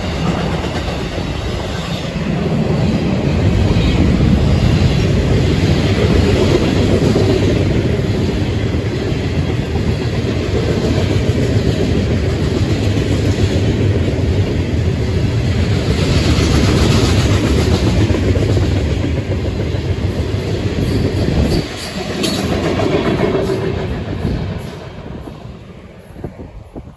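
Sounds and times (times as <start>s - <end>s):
freight train wheels on rail: 0.0s - 26.9s.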